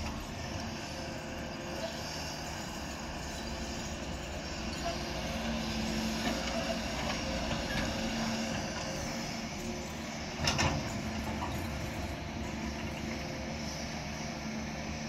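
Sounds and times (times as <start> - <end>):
dump truck engine: 0.0 - 15.0
excavator engine and hydraulics: 0.0 - 15.0.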